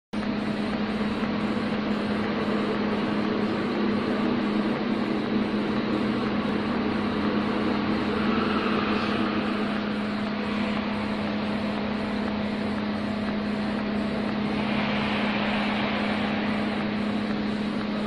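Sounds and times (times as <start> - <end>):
welding machine hum: 0.2 - 18.0.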